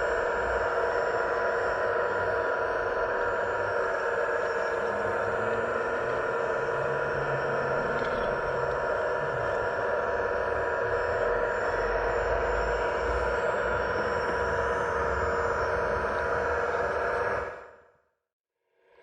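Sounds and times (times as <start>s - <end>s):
low rumbling of machine: 0.0s - 18.0s
electric pump whine: 0.0s - 18.1s.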